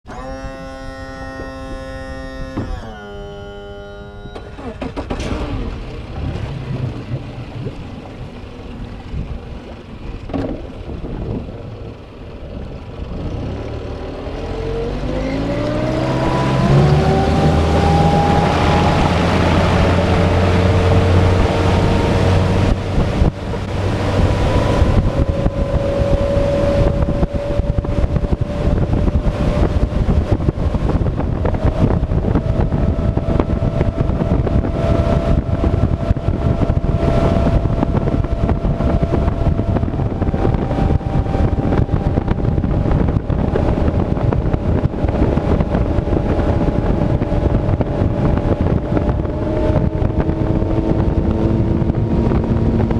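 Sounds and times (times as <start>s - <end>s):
outboard motor whining: 0.0s - 52.9s
wind buffeting microphone: 0.0s - 52.9s
rush of water and air: 4.6s - 52.9s.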